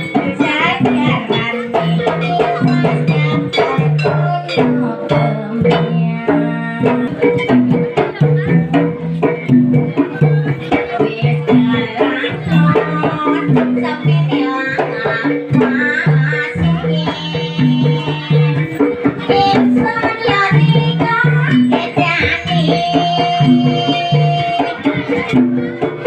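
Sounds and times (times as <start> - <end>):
hand drums and percussion: 0.0 - 26.0.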